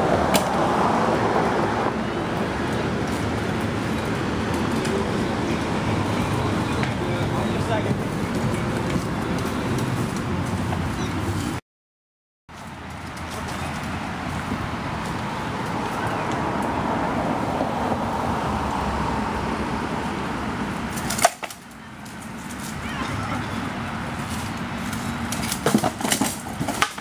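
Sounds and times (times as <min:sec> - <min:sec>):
rushing background noise: 0:00.0 - 0:11.6, 0:12.5 - 0:27.0.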